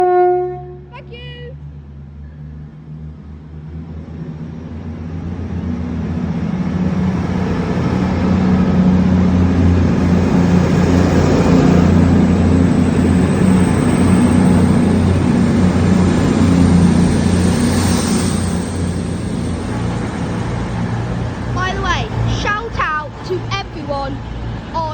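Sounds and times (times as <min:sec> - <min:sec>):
diesel train engine drone: 0:00.0 - 0:24.9.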